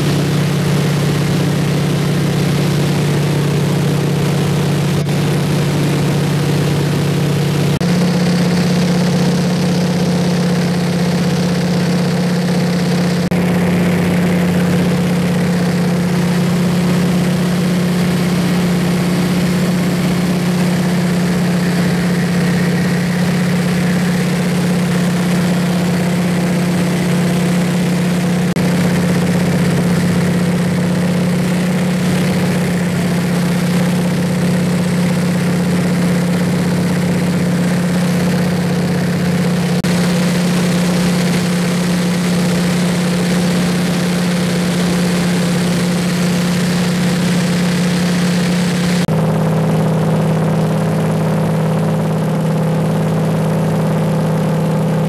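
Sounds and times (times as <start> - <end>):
plane engine and propeller droning: 0.0 - 55.0.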